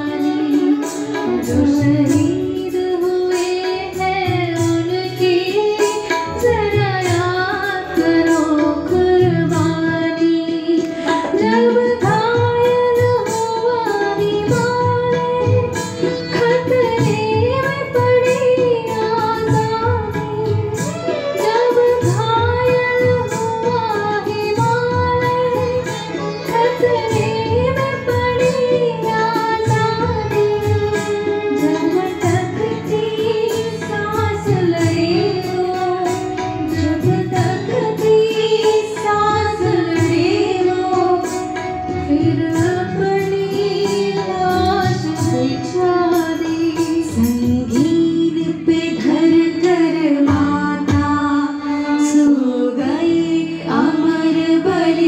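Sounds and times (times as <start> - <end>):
sitar: 0.0 - 55.0
tabla: 0.0 - 55.0
violin: 0.0 - 55.0.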